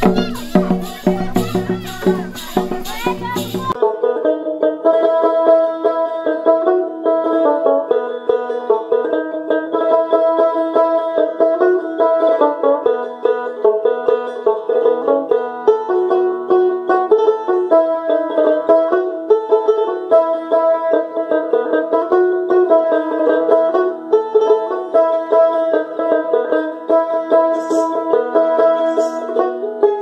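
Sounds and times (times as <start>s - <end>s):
quick plucked string tune: 0.0s - 30.0s.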